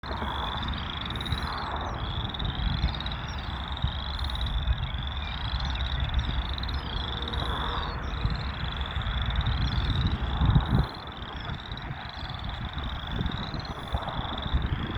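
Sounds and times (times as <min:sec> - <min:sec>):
frogs calling in trills: 0:00.0 - 0:14.9.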